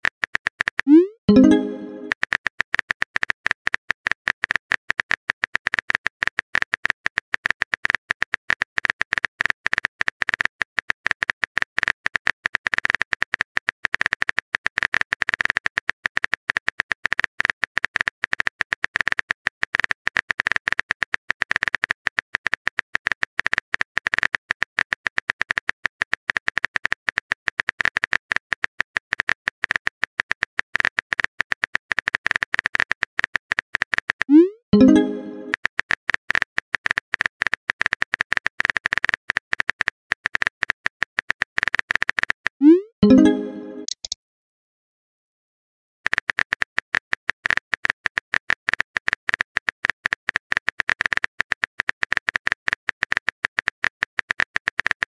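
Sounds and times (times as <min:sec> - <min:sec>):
rapid keyboard typing clicks: 0:00.0 - 0:44.2, 0:46.1 - 0:55.0.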